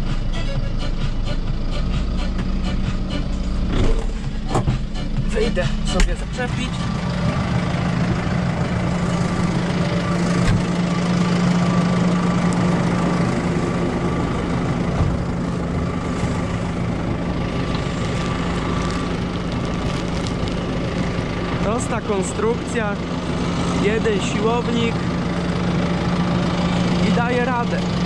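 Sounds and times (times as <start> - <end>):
tractor diesel engine idling: 0.0 - 28.0.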